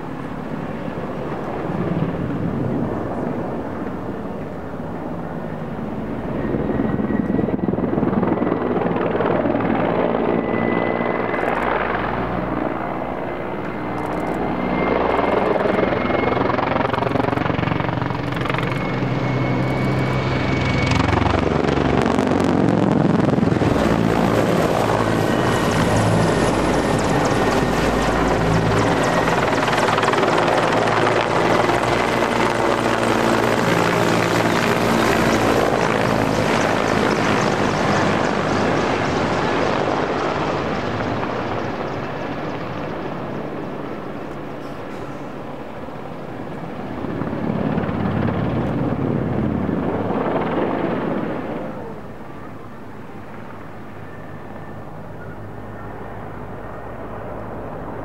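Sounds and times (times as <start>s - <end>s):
helicopter rotor beat: 0.0s - 58.0s
turbine engine whine: 0.0s - 58.0s.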